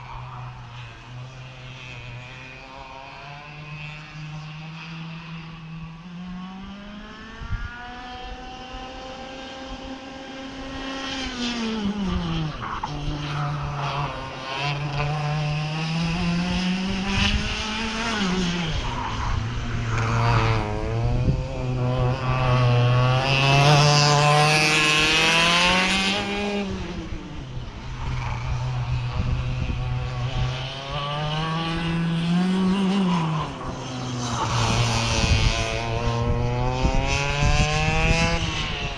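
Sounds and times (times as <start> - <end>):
racing kart engines accelerating: 0.0 - 38.9.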